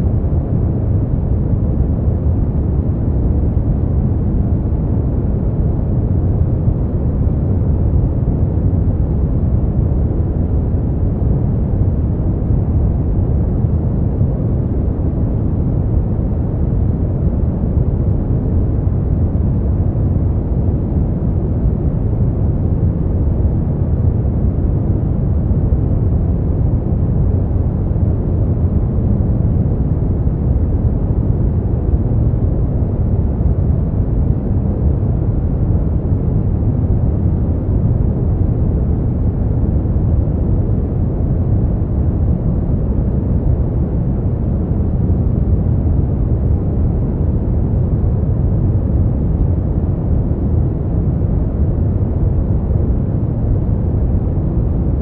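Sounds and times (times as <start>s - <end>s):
deep low noise rumble: 0.0s - 55.0s.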